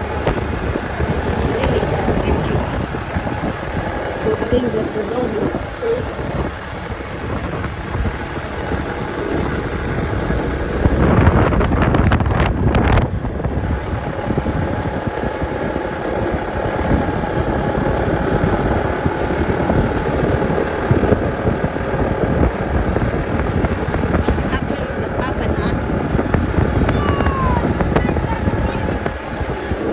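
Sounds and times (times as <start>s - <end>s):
motorcycle engine running: 0.0s - 29.9s
wind noise on microphone: 0.0s - 29.9s.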